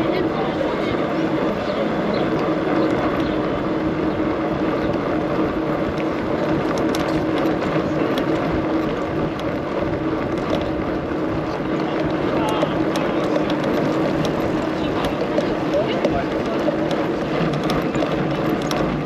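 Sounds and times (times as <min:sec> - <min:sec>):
bike tyres rumbling on cobblestones: 0:00.0 - 0:19.0.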